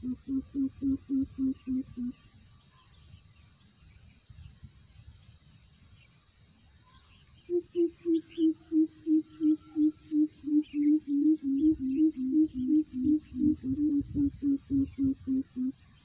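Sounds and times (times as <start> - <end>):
faint birds: 0.0 - 16.0
faint insects: 0.0 - 16.0.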